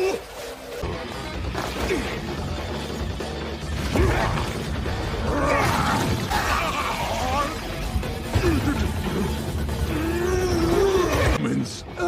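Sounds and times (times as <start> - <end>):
fight scene music: 0.0 - 12.0.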